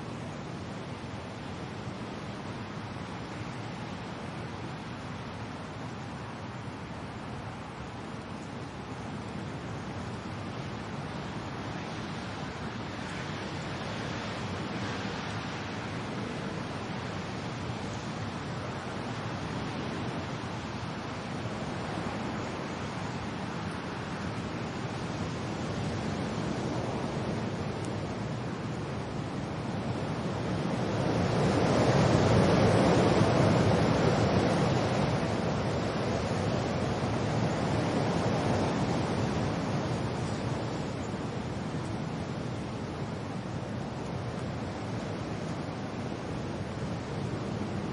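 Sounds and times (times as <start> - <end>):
steady rain: 0.0 - 47.9
wind: 0.0 - 47.9.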